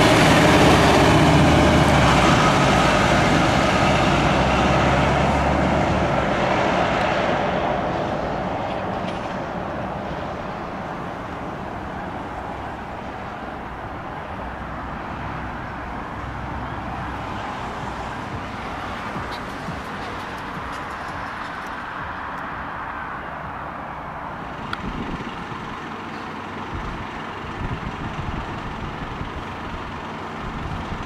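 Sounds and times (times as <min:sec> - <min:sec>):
diesel engine pulling away: 0:00.0 - 0:31.0.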